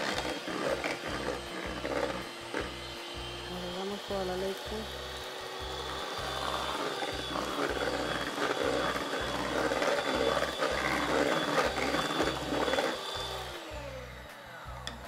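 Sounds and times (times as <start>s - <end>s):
electric hand mixer whisking: 0.0s - 15.0s.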